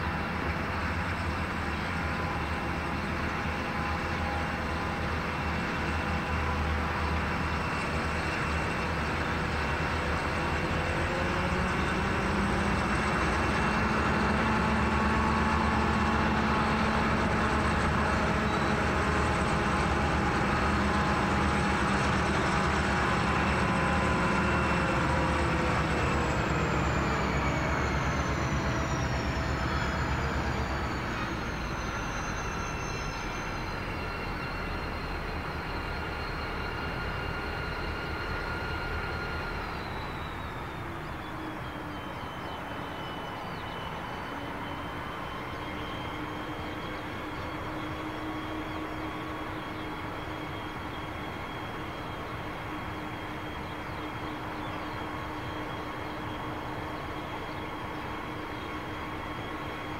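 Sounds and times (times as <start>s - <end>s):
diesel locomotive engine hum: 0.0s - 59.9s.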